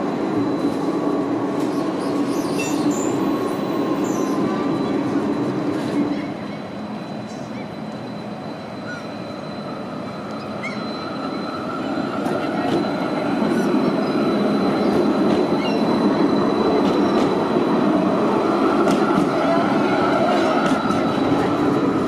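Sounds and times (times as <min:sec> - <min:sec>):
tram rumbling on rails: 0:00.0 - 0:22.0.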